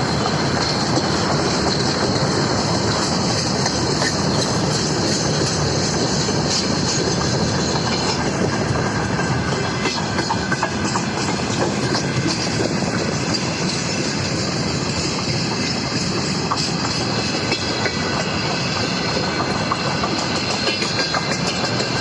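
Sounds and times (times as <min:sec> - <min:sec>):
freight train rolling past: 0:00.0 - 0:22.0
wheels clattering over rail joints: 0:00.0 - 0:22.0.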